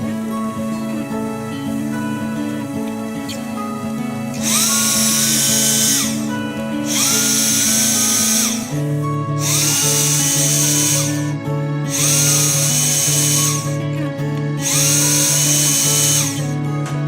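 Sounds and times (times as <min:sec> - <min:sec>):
guitar music: 0:00.0 - 0:17.0
power drill whining: 0:00.0 - 0:17.0.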